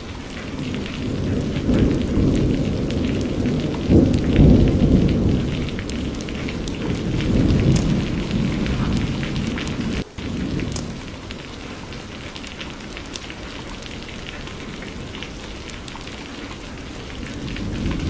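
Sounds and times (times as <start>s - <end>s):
low rumble of thunder: 0.0s - 18.0s
steady rain: 0.0s - 18.0s.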